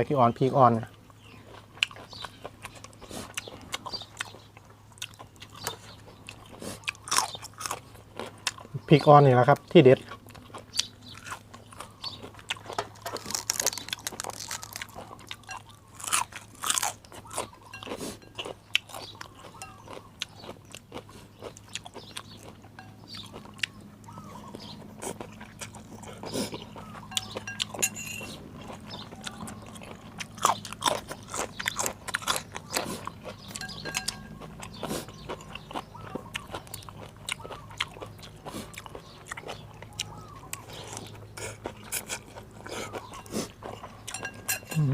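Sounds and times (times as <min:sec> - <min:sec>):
person crunching and chewing: 0:00.4 - 0:44.9.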